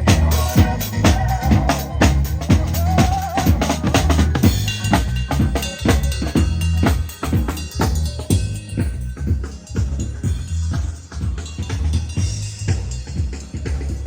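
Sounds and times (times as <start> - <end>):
melody line: 0.0 - 13.7
deep bass line: 0.0 - 14.0
drum kit beat: 0.0 - 14.0.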